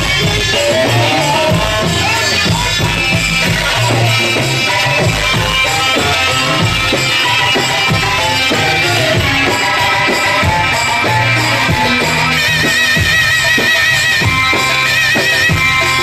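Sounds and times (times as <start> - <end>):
hand drum beats: 0.0 - 16.0
high wavering lead melody: 0.0 - 16.0.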